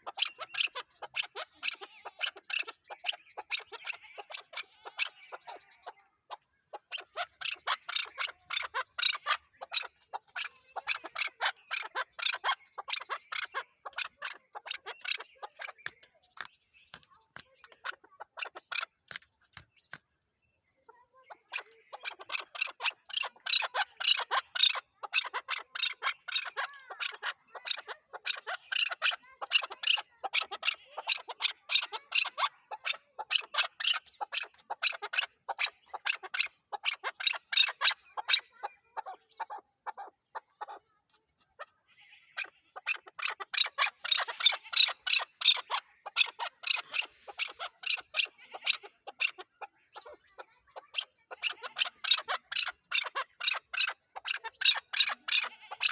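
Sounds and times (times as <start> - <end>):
partridge calling: 0.0 - 20.0, 20.8 - 40.9, 42.0 - 55.9.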